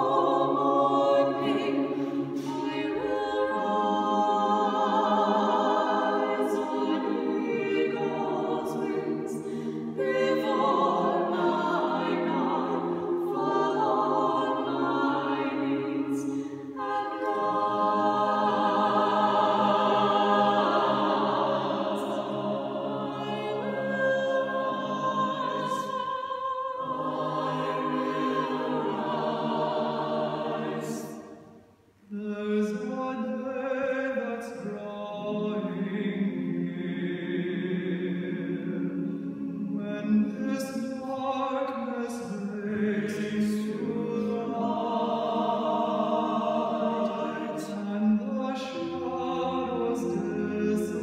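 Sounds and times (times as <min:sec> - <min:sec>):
choir singing a cappella: 0:00.0 - 0:51.0.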